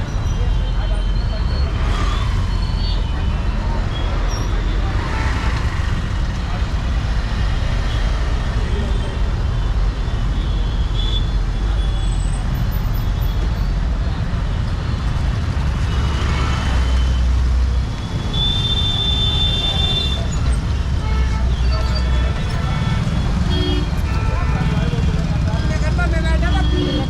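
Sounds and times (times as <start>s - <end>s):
low rumble of traffic engines: 0.0s - 27.0s.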